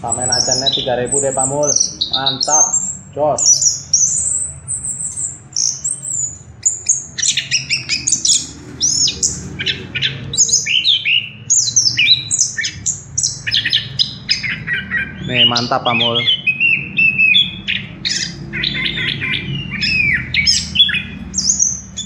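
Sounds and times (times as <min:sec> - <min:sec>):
thrush whistling song: 0:00.0 - 0:22.0.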